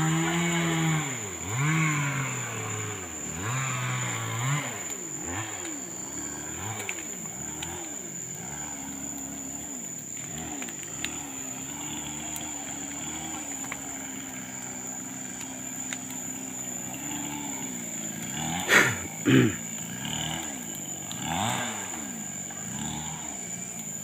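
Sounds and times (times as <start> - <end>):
small engine revving: 0.0 - 24.0.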